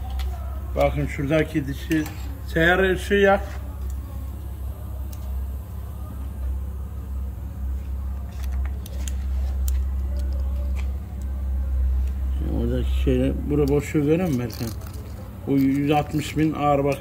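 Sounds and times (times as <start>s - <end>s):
low machinery rumble: 0.0s - 17.0s.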